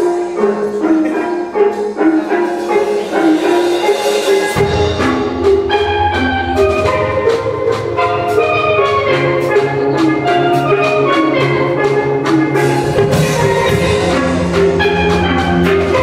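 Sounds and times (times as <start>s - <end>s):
percussion strikes: 0.0s - 16.0s
steel band playing: 0.0s - 16.0s.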